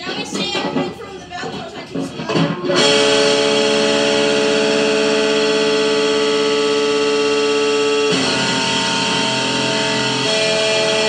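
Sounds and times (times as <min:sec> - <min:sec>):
electric guitar ringing: 0:01.9 - 0:11.0.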